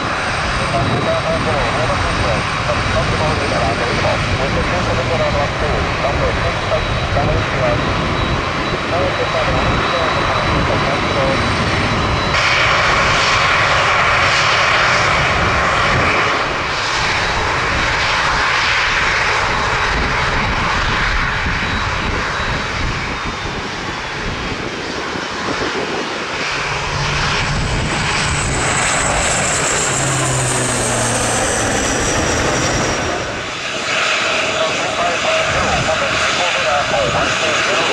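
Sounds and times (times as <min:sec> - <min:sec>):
high engine whine: 0:00.0 - 0:37.9
turboprop engines roaring: 0:00.0 - 0:37.9.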